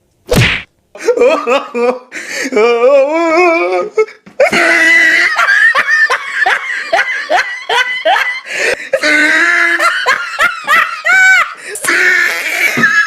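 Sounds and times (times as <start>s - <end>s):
person laughing hard: 1.0s - 13.0s.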